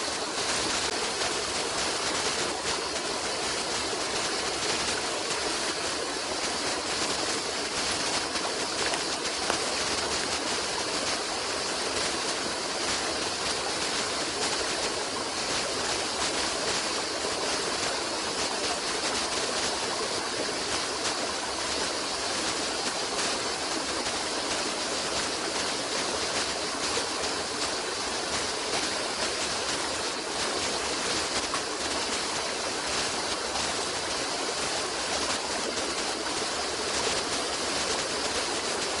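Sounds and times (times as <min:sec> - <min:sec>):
stream of water flowing: 0:00.0 - 0:39.0.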